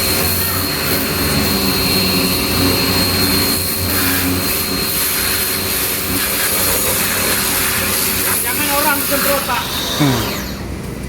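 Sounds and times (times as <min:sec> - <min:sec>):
pressure washer water jet hissing: 0:00.0 - 0:10.6
pressure washer motor hum: 0:00.0 - 0:11.0.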